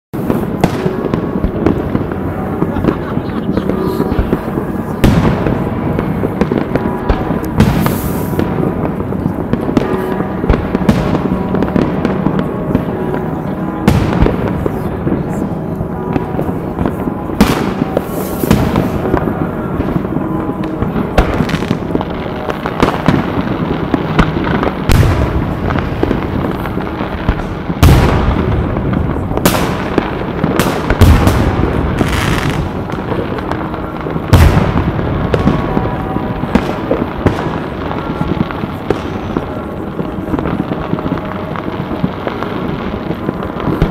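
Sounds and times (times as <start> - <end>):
firecrackers crackling: 0.2 - 43.9
firework booms: 0.2 - 43.9.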